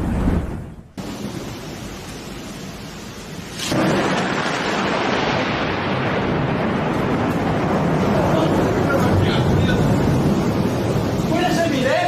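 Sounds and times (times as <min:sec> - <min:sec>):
rain rushing: 0:00.0 - 0:12.0
wind: 0:00.0 - 0:12.0.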